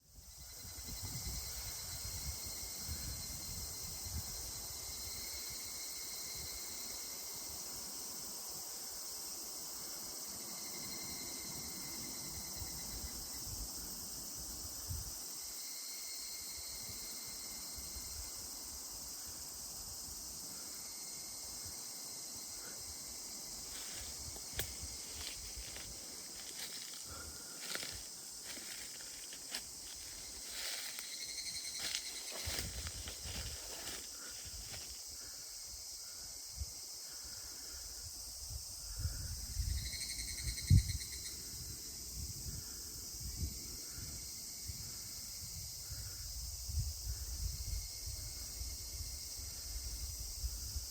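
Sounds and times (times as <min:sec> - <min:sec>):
cicadas chorus: 0:00.0 - 0:50.9.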